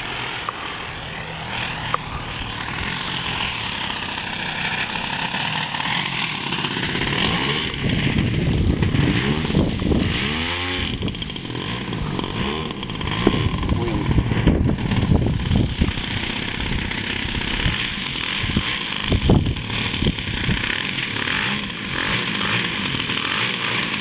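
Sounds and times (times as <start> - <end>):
model plane engine in flight: 0.0 - 24.0.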